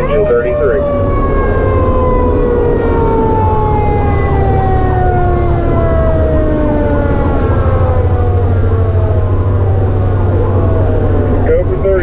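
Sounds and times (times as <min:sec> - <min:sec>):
siren rising and falling quickly: 0:00.0 - 0:12.0
siren winding down: 0:00.0 - 0:12.0
truck engine rumble: 0:00.0 - 0:12.0.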